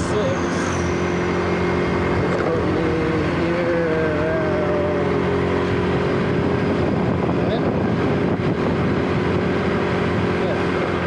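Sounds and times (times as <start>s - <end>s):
wind noise on microphone: 0.0s - 10.6s
scooter engine running: 0.0s - 11.0s.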